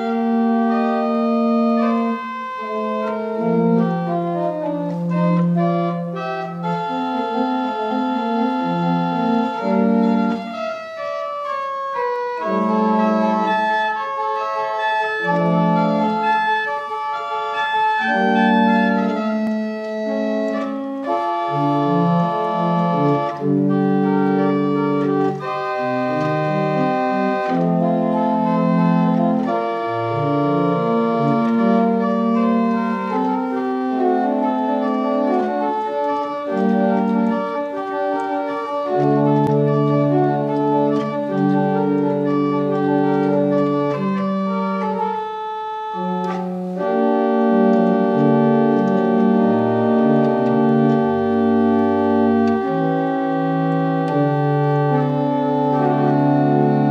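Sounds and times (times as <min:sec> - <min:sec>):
pipe organ playing chords: 0:00.0 - 0:56.9.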